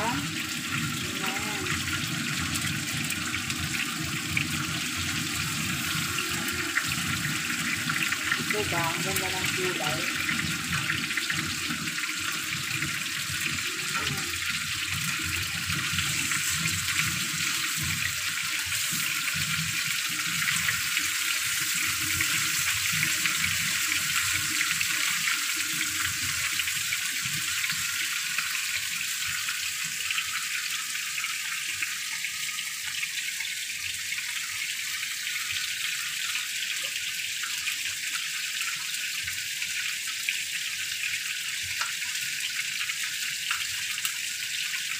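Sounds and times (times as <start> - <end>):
chicken sizzling in a frying pan: 0.0 - 44.9.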